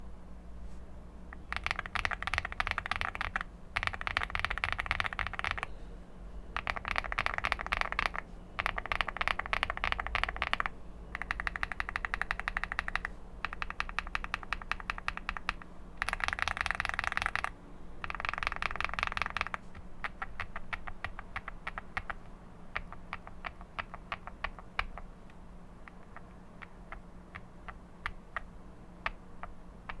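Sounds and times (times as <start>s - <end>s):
steady low hum: 0.0s - 30.0s
mechanical keyboard typing: 1.4s - 5.7s, 6.6s - 25.1s, 25.8s - 30.0s.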